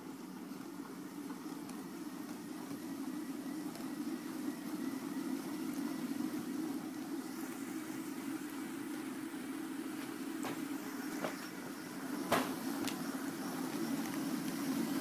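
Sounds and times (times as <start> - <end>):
faint high whine: 0.0 - 15.0
low mechanical hum: 0.0 - 15.0.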